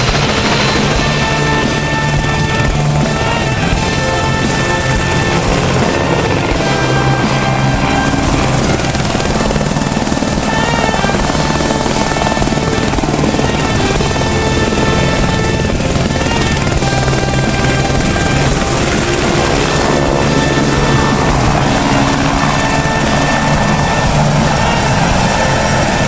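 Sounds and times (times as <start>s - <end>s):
background music: 0.0s - 26.0s
helicopter rotor chop: 0.0s - 26.0s.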